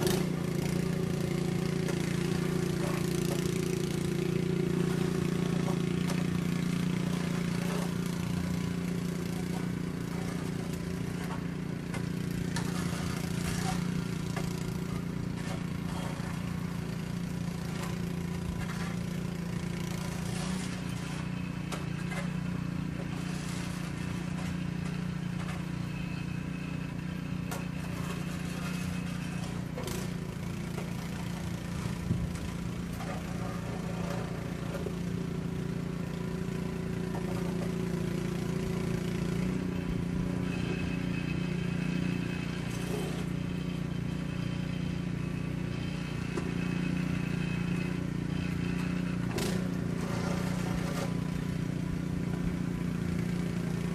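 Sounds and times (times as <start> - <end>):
engine humming steadily: 0.0 - 53.9.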